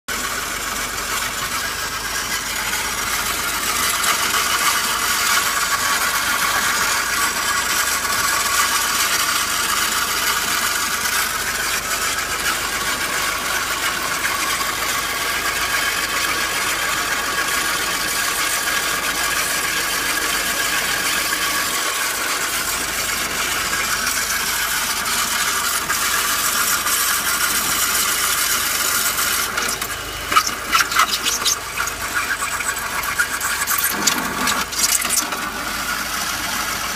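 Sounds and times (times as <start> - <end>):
car engine rattling and clicking: 0.1 - 36.9.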